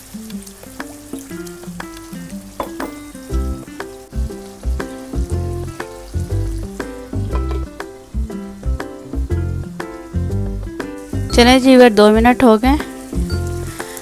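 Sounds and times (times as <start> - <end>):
background music melody: 0.0 - 14.0
meat sizzling in a pan: 0.0 - 14.0.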